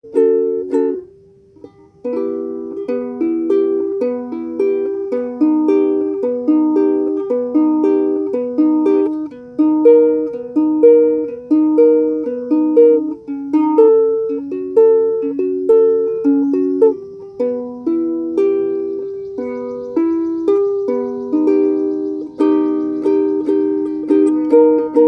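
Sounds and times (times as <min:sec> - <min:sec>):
ukulele plucked notes: 0:00.0 - 0:25.0.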